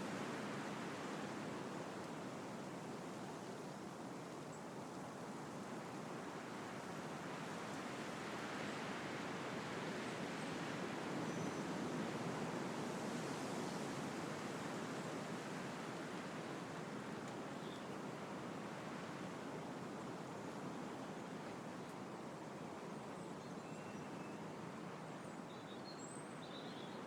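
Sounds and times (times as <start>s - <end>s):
wind through tree leaves: 0.0s - 27.0s.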